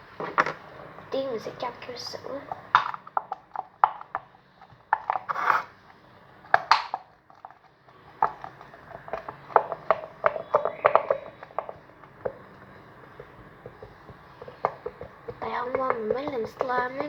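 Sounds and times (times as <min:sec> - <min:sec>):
plastic containers clicking and tapping: 0:00.2 - 0:00.7, 0:02.4 - 0:17.0.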